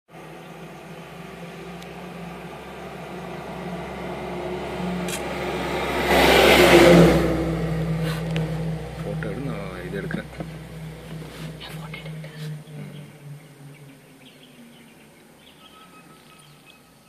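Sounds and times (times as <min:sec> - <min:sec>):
truck passing by: 0:00.1 - 0:17.0.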